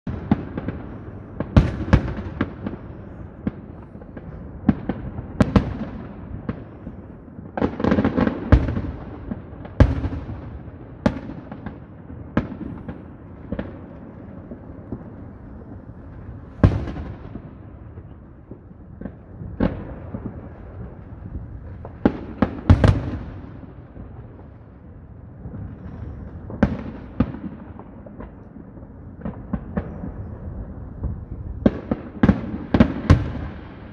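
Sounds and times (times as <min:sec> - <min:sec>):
fireworks bangs: 0:00.1 - 0:33.9.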